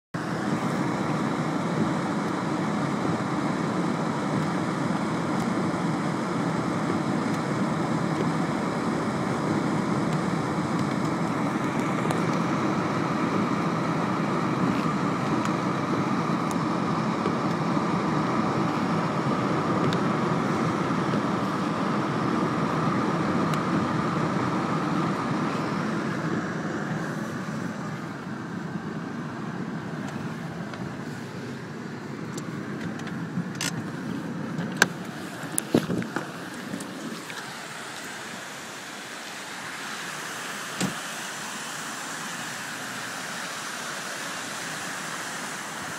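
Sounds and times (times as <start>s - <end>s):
rain hissing on car: 0.2s - 45.9s.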